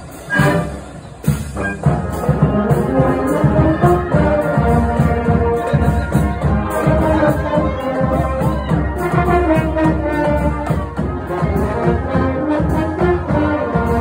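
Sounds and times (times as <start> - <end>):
marching brass band playing: 0.0 - 14.0.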